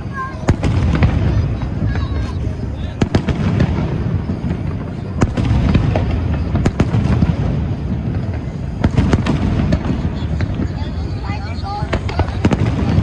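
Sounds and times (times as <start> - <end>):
firework shells bursting: 0.0 - 13.0
rumble of booms and crackle: 0.0 - 13.0
sharp firework crack: 0.0 - 13.0.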